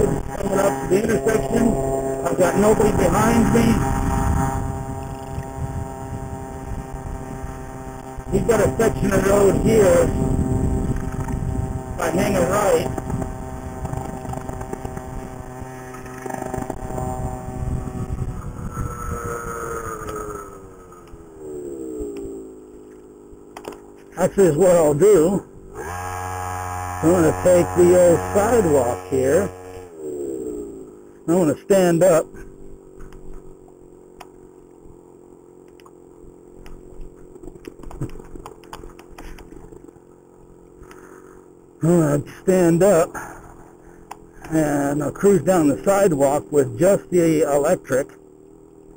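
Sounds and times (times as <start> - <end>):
two-stroke scooter engine running: 0.0 - 48.9.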